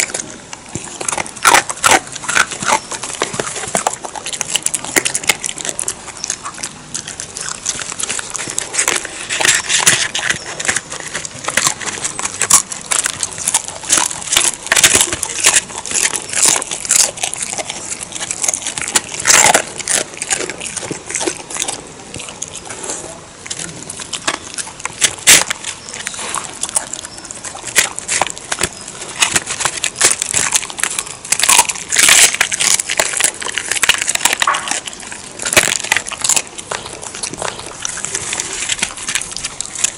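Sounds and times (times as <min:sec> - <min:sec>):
dog crunching bones: 0:00.0 - 0:39.9.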